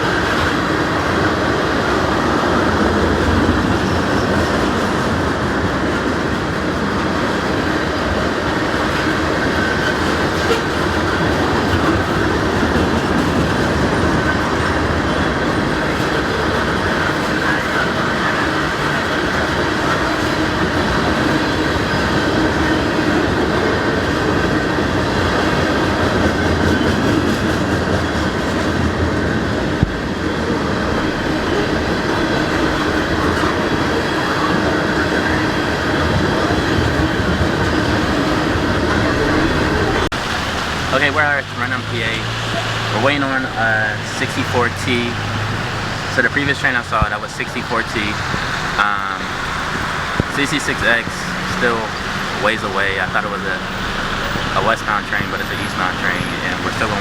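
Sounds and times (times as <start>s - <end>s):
freight train wheels on rail: 0.0s - 57.0s.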